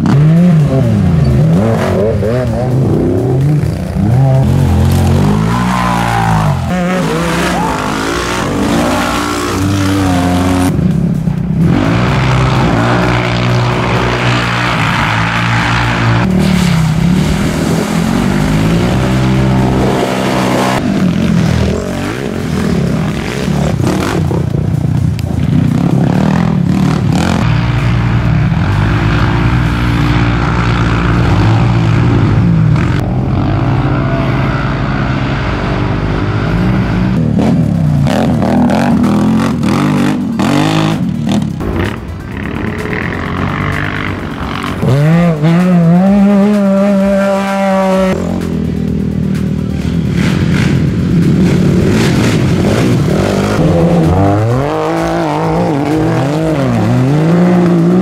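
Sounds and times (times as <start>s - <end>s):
race engines revving: 0.0s - 58.0s.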